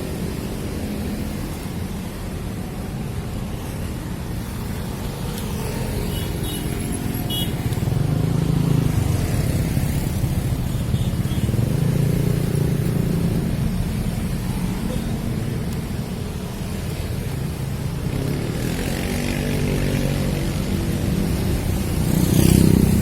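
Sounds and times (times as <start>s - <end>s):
road vehicles passing: 0.0s - 23.0s.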